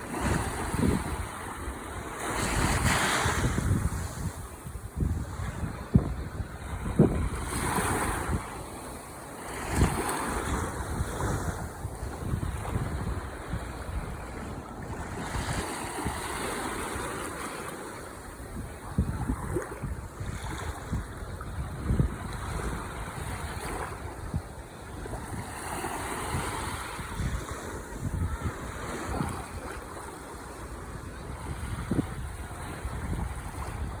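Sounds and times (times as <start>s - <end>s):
wind buffeting microphone: 0.0s - 9.0s, 9.6s - 17.3s, 18.3s - 34.0s
ocean waves washing ashore: 0.0s - 34.0s.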